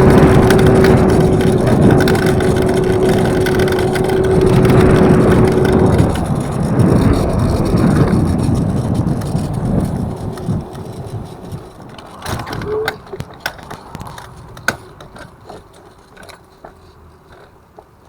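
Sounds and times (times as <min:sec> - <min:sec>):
scooter wheel grinding rumble: 0:00.0 - 0:18.0.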